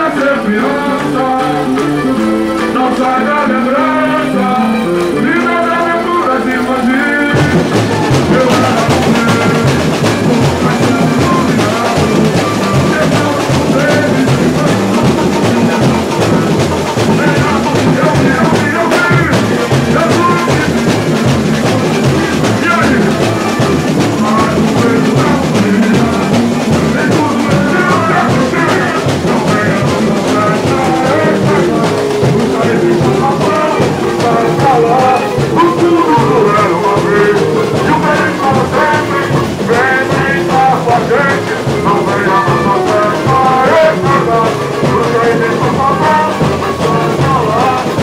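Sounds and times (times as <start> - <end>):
guitar: 0.0 - 48.0
people singing: 0.0 - 48.0
samba drums playing driving beat: 0.0 - 48.0.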